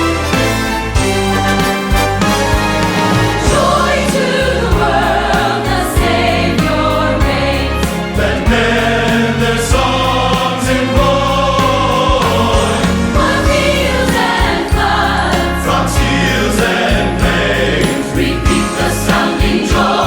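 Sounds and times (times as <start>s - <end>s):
bass line and regular beat: 0.0s - 20.0s
full orchestra: 0.0s - 20.0s
large choir singing: 0.9s - 20.0s.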